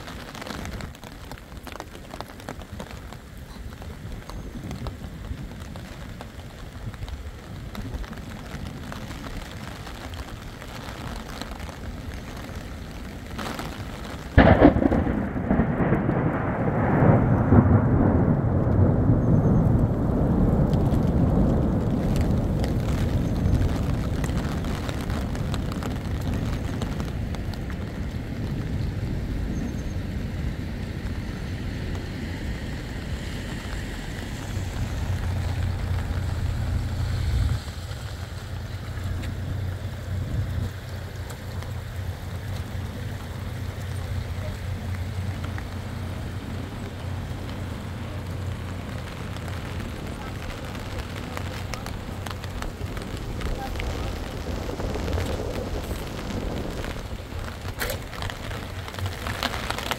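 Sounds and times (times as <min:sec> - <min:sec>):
steady rain: 0:00.0 - 0:59.9
thunderclap with rolling rumble: 0:00.0 - 0:59.9.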